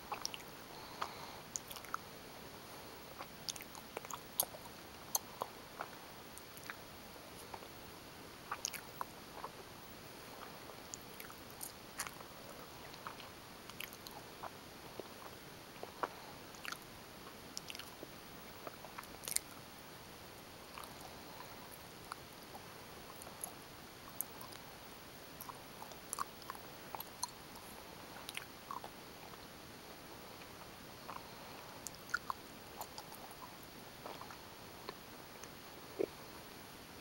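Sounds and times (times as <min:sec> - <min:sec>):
mouth clicks and smacks: 0:00.0 - 0:02.0, 0:03.1 - 0:07.7, 0:08.5 - 0:09.5, 0:10.4 - 0:19.6, 0:20.7 - 0:24.7, 0:25.4 - 0:29.4, 0:30.3 - 0:36.2
gummy bears being chewed: 0:00.0 - 0:07.8, 0:08.5 - 0:09.6, 0:10.3 - 0:19.6, 0:20.6 - 0:24.7, 0:25.3 - 0:29.4, 0:30.2 - 0:36.3
steady hiss: 0:00.0 - 0:37.0.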